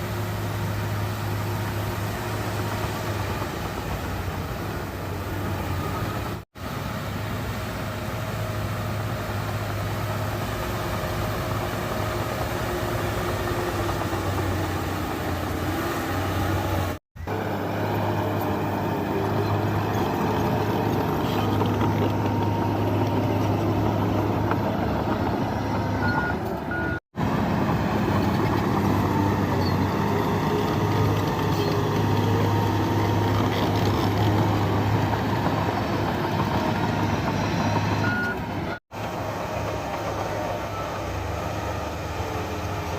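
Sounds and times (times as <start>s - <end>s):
bulldozer diesel engine working: 0.0s - 42.9s.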